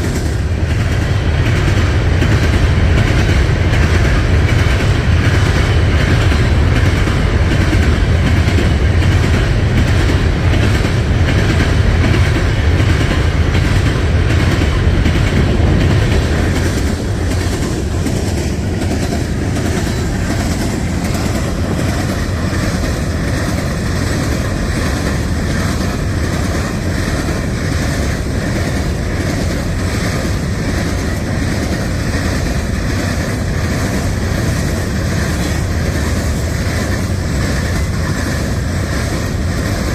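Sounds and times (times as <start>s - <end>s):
train cars rumbling past: 0.0s - 39.9s
wheels clicking over rail joints: 0.0s - 39.9s.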